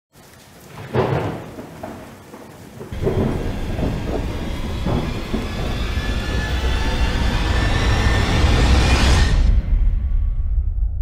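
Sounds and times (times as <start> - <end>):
rain: 0.1 - 9.6
low thunder rumble: 0.6 - 11.0
thunderclap: 0.6 - 11.0.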